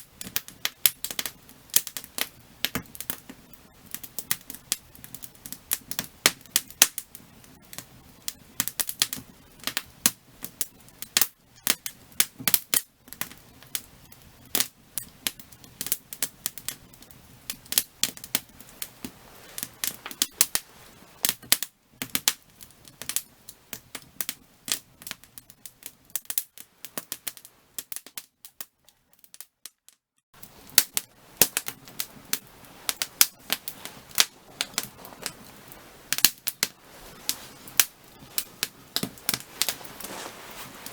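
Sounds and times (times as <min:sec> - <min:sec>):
firewood crackling and popping: 0:00.0 - 0:29.8, 0:30.4 - 0:40.9.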